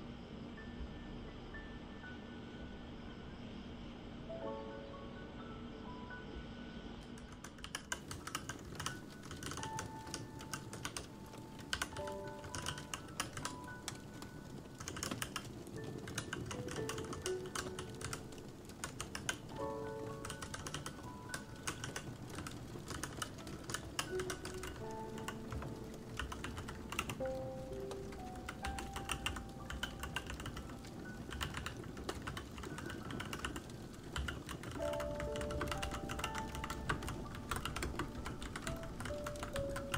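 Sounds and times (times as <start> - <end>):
soft background music: 0.0 - 39.9
mechanical keyboard typing clicks: 7.1 - 39.9.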